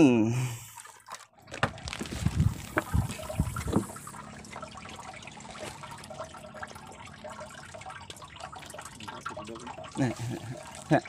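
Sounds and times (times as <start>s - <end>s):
water lapping against boat hull: 0.7s - 11.0s.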